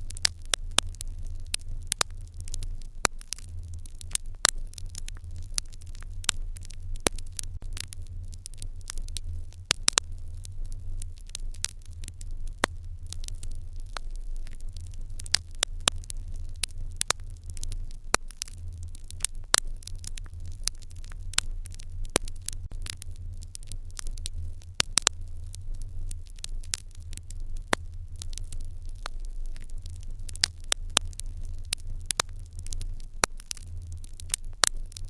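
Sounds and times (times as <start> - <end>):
low steady rumble: 0.0 - 35.0
wood fire crackling: 0.0 - 35.0.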